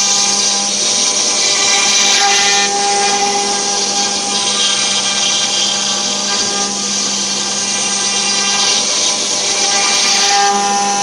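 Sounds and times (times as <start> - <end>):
wood router spindle whining: 0.0 - 11.0.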